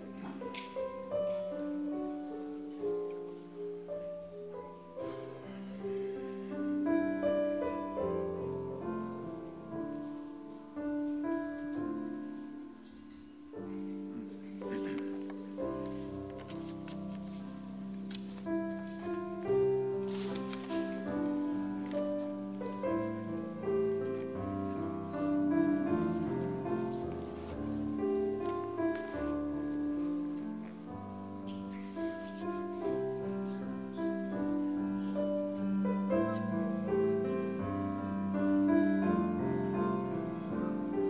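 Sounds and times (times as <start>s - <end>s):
slow piano music: 0.0s - 41.0s.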